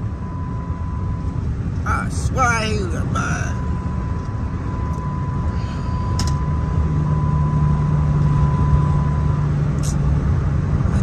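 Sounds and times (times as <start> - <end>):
car engine drone in cabin: 0.0 - 11.0
road noise: 0.0 - 11.0.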